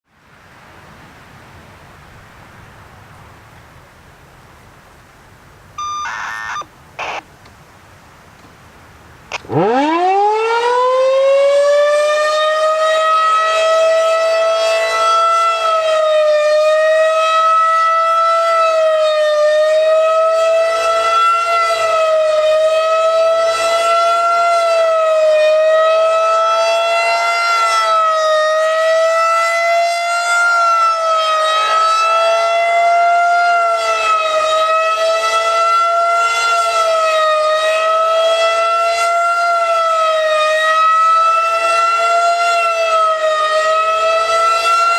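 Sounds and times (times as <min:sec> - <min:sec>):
tornado siren wailing: 0:05.8 - 0:07.2, 0:09.3 - 0:44.9.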